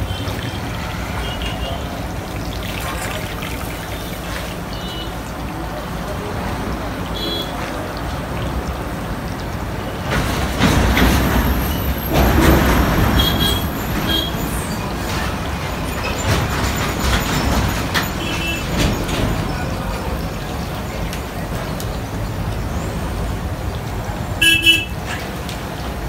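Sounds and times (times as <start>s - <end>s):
food deep-frying in oil: 0.0s - 26.0s
street traffic: 0.0s - 26.0s.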